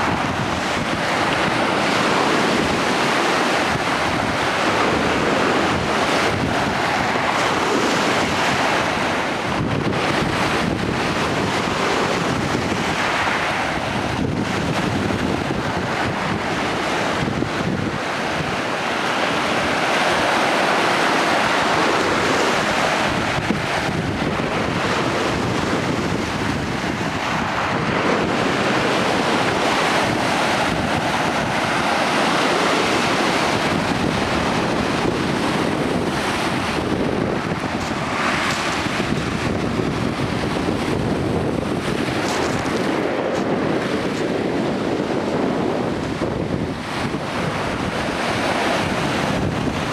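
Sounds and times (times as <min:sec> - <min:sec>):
waves breaking on rocky shore: 0:00.0 - 0:49.9
wind buffeting microphone: 0:00.0 - 0:49.9.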